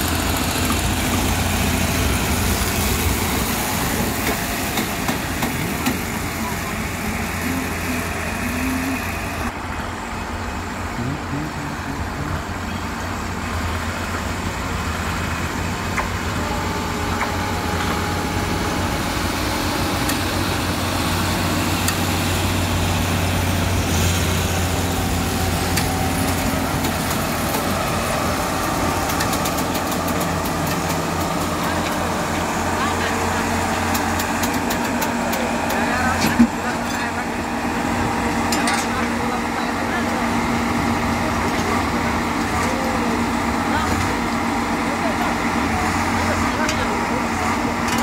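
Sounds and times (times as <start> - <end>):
machine engine droning: 0.0 - 48.0.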